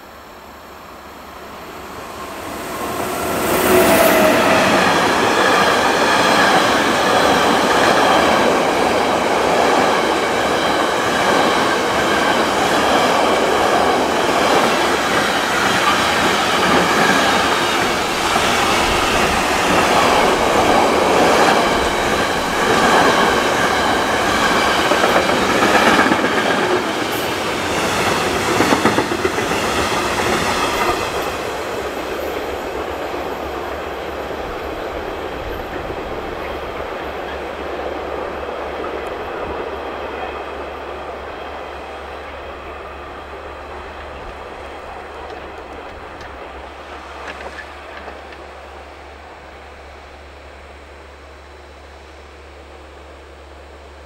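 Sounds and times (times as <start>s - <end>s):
locomotive passing: 0.0s - 50.4s.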